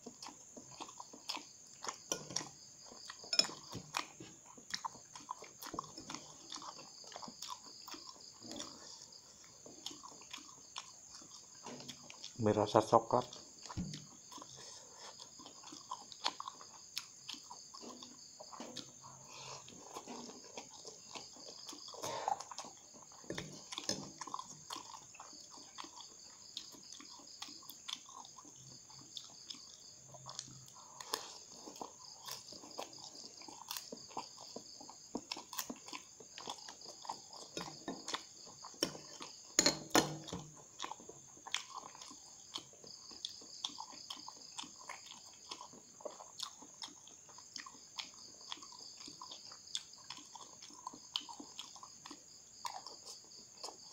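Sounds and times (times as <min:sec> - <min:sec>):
person chewing noodles: 0:00.0 - 0:53.9.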